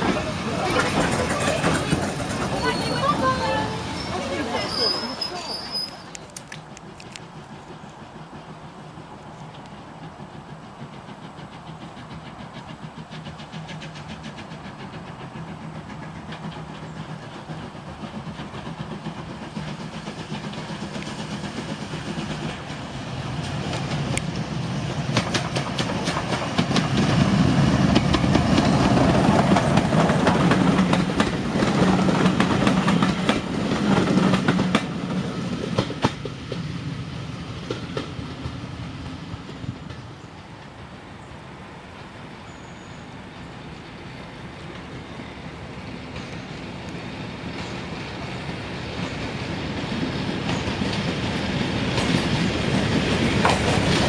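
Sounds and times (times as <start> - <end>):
wheels clicking over rail joints: 0.0 - 41.3, 42.0 - 54.0
steam locomotive passing: 0.0 - 54.0.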